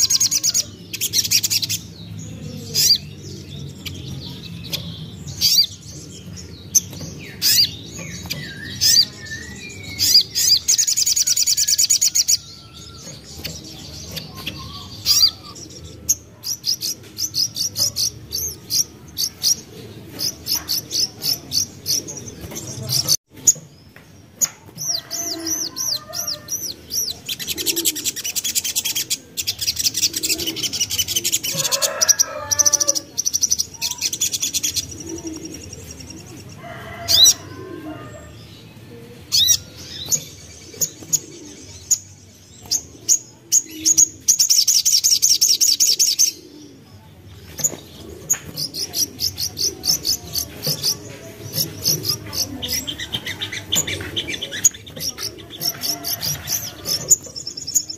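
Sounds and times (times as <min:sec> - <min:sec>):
bird singing high chirps and trills: 0:00.0 - 0:57.9.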